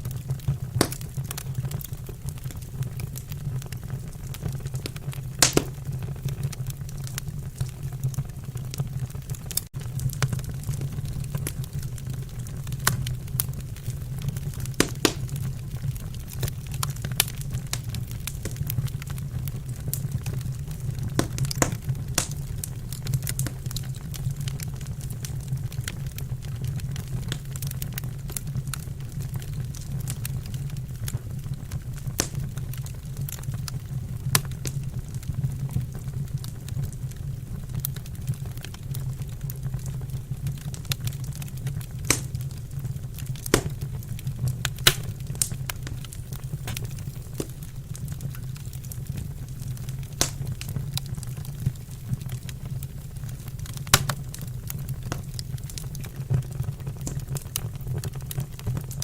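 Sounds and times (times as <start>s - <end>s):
fire low rumble: 0.0s - 59.0s
wood fire crackling and popping: 0.0s - 59.0s.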